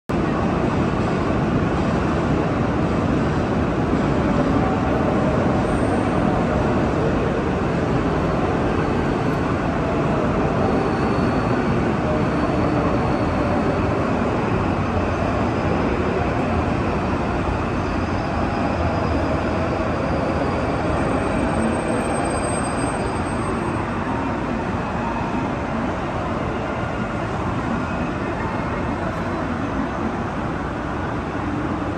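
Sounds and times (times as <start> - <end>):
railway station noise: 0.1 - 31.9
rumble of trains: 0.1 - 31.9.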